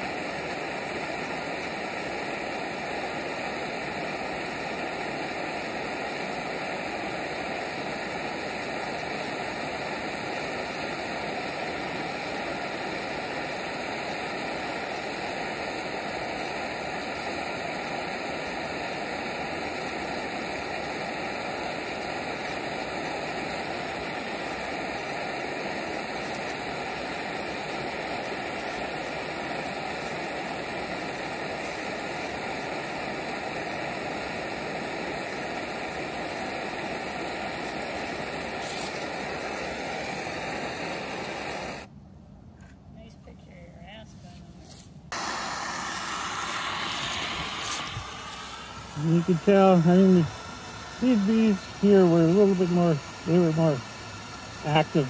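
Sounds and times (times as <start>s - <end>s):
propane torch flame hissing: 0.0s - 41.9s, 45.1s - 55.0s.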